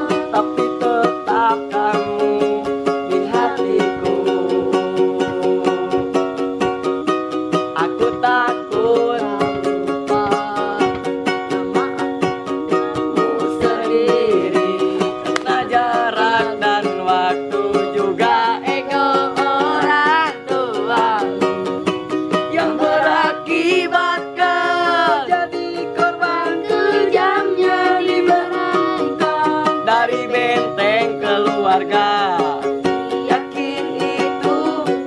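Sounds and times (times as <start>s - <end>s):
person singing: 0.0s - 35.0s
strummed small string instrument: 0.0s - 35.0s.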